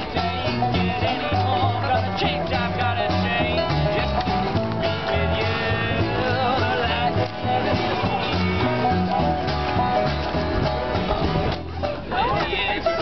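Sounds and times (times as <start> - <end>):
acoustic string band playing: 0.0 - 13.0
plucked upright bass: 0.0 - 13.0.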